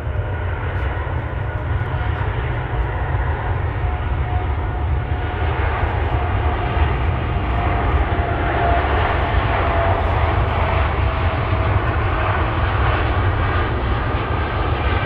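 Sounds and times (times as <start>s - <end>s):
jet airliner engines rumbling: 0.0s - 15.0s.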